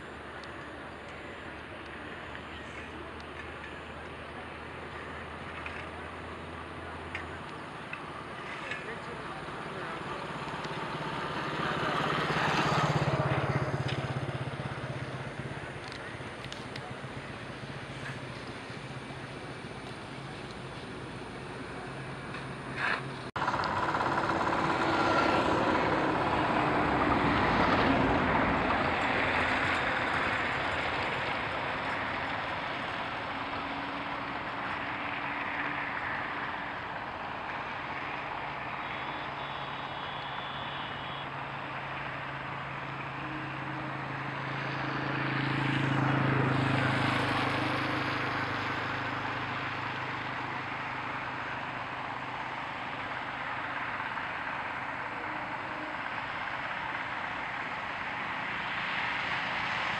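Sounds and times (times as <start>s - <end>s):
road traffic rumble: 0.0s - 59.9s
vehicle engine humming low: 0.0s - 59.9s.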